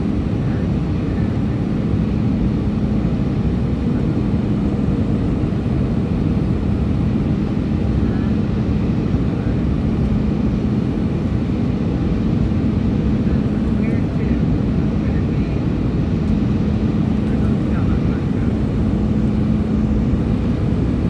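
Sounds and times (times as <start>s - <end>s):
airplane engine drone: 0.0s - 21.0s
steady low hum: 0.0s - 21.0s.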